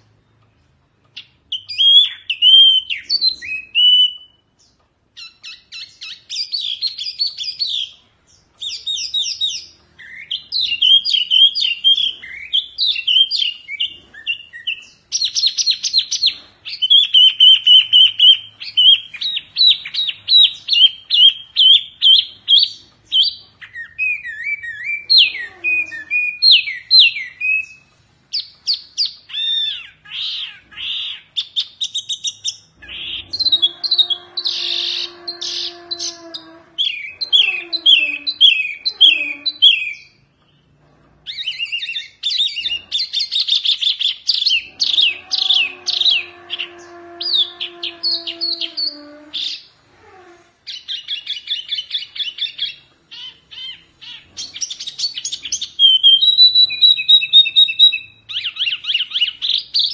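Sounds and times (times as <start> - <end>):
caged songbird singing trills: 0.0 - 49.7, 50.6 - 59.9.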